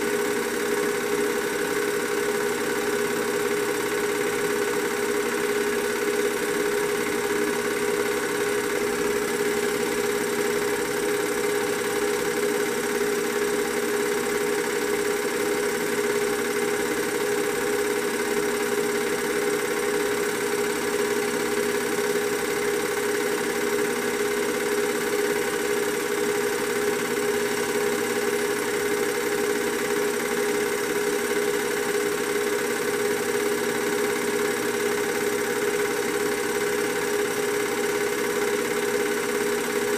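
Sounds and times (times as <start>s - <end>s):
film projector humming: 0.0s - 39.9s.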